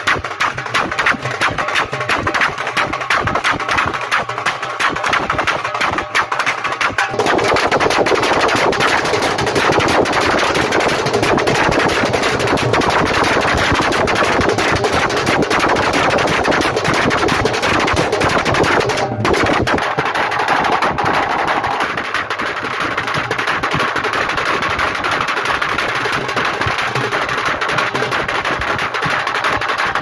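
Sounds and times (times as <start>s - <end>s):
fast barrel drumming: 0.0s - 30.0s.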